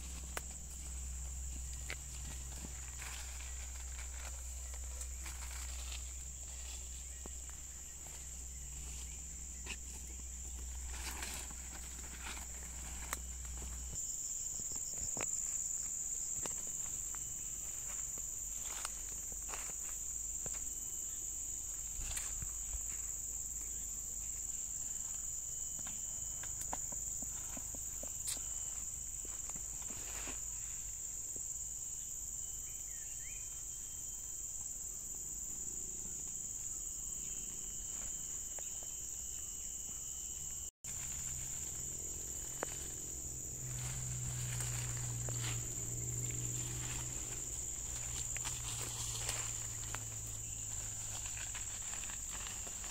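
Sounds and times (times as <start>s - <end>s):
footsteps through dry undergrowth: 0.0s - 31.0s, 40.8s - 52.9s
insects droning: 0.0s - 52.9s.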